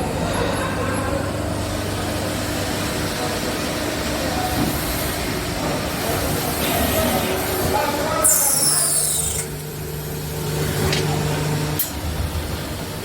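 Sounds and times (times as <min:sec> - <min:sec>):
lathe mechanical hum: 0:00.0 - 0:13.0.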